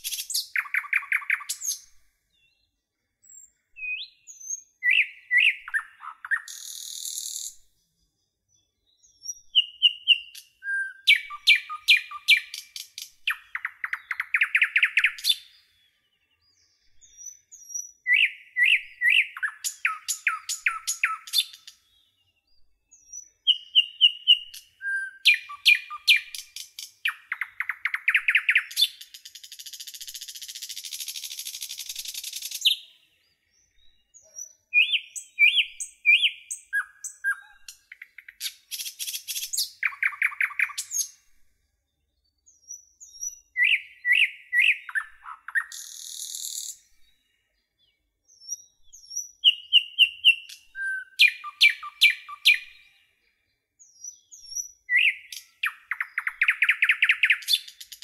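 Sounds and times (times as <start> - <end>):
songbird singing trills: 0.0 - 58.0.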